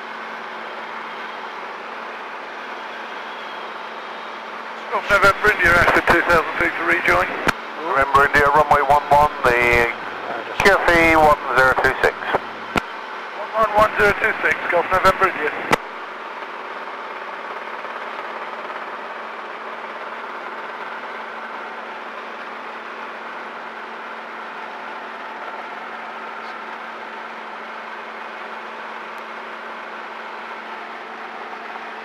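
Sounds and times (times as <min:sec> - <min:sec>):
helicopter cabin drone: 0:00.0 - 0:32.0.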